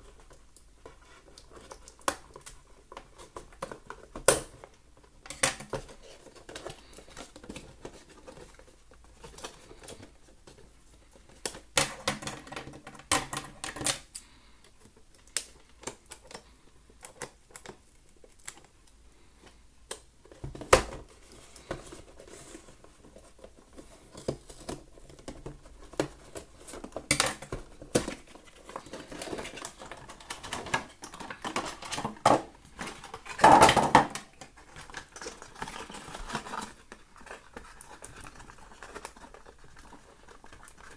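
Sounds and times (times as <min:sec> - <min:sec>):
cardboard and plastic crackling: 0:00.0 - 0:40.9.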